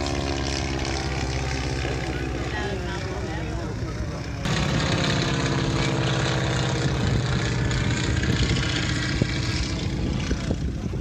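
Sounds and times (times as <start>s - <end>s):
biplane engine and propeller: 0.0s - 11.0s.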